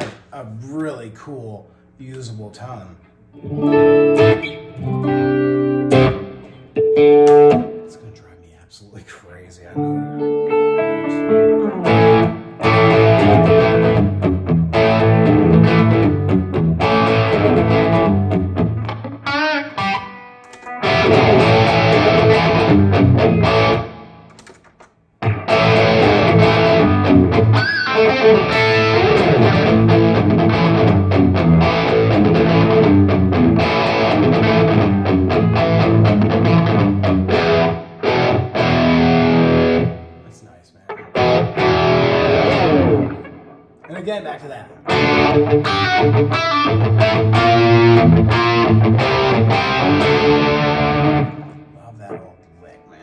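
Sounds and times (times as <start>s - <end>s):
overdriven electric guitar: 3.3s - 8.0s, 9.8s - 44.0s, 44.8s - 52.2s.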